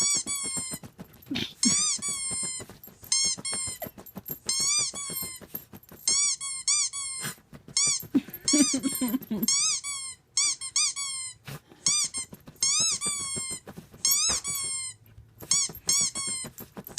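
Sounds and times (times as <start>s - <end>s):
rubber squeaky dog toy squeaking: 0.0s - 16.9s.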